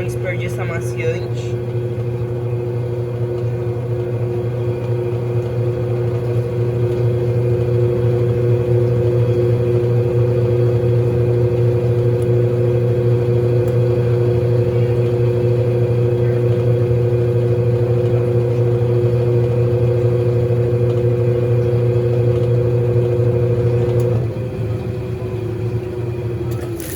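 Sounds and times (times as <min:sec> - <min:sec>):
washing machine motor hum: 0:00.0 - 0:26.9.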